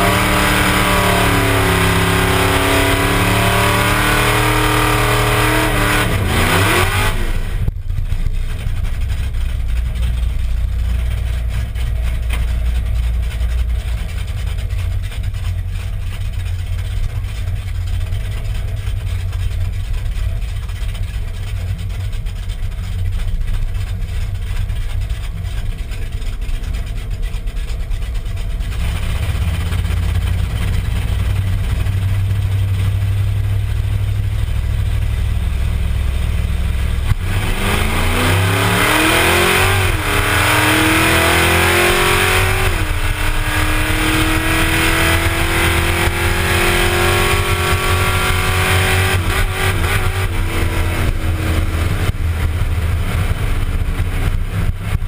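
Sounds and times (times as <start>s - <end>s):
truck engine idling: 0.0s - 41.4s, 49.2s - 55.0s.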